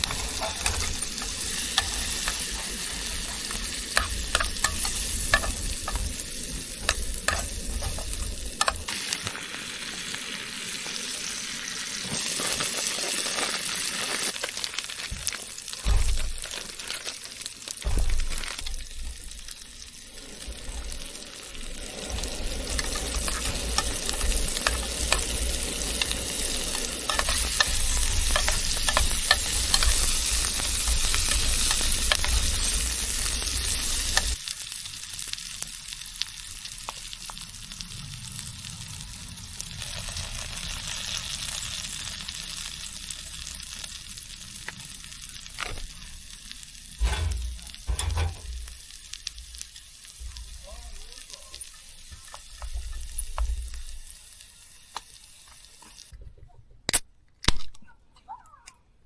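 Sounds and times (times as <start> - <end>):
food sizzling in frying pan: 0.0 - 56.1.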